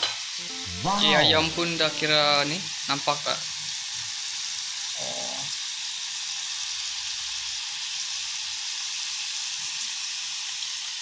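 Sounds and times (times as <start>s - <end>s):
chicken sizzling in hot oil: 1.6s - 11.0s.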